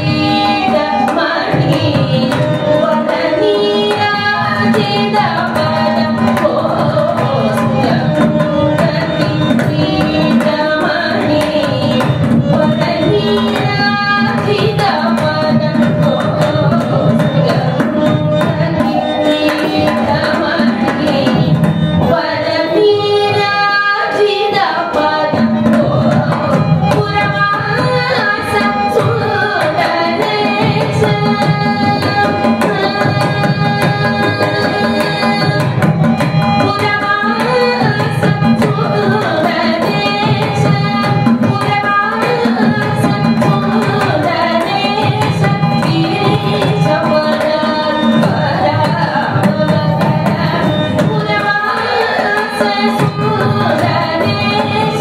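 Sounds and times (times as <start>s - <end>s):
mridangam drumming: 0.0s - 55.0s
woman singing: 0.0s - 55.0s.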